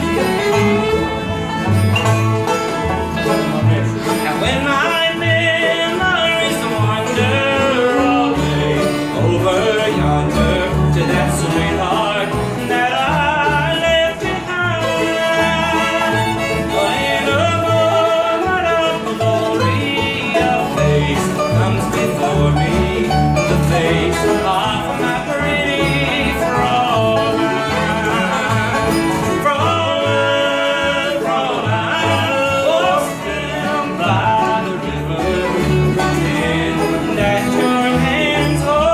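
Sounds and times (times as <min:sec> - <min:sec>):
country band playing: 0:00.0 - 0:38.9
plucked and bowed strings: 0:00.0 - 0:38.9.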